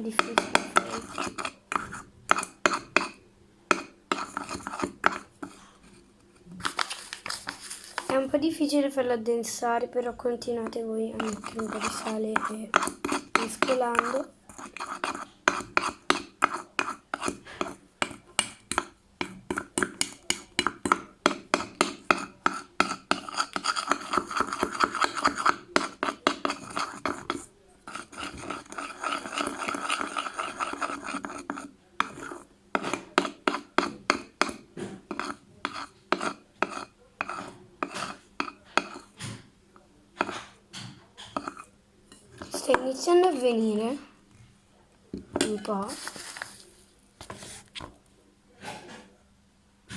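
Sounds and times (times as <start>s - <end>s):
teaspoon scraping a bowl: 0.0s - 8.3s, 10.4s - 39.5s, 40.2s - 43.7s, 45.4s - 47.9s.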